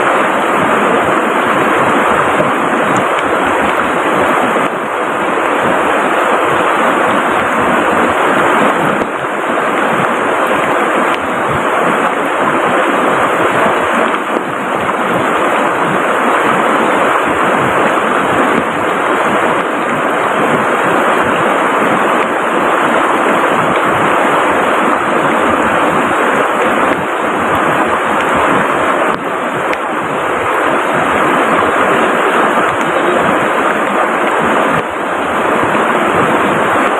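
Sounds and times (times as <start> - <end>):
heavy rain: 0.0 - 36.9
river rushing: 0.0 - 36.9.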